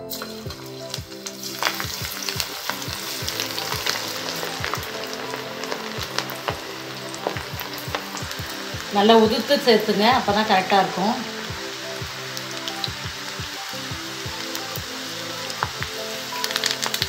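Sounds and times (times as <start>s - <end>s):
dough sizzling in hot oil: 0.0s - 17.0s.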